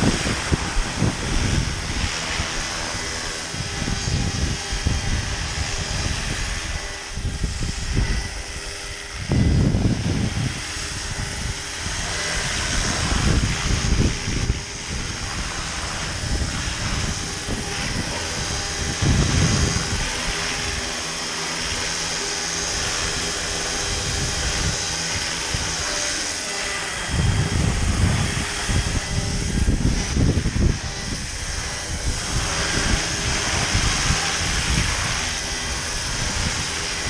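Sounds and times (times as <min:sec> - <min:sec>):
model helicopter rotors whining: 0:00.0 - 0:37.0
wind buffeting microphone: 0:00.0 - 0:37.0.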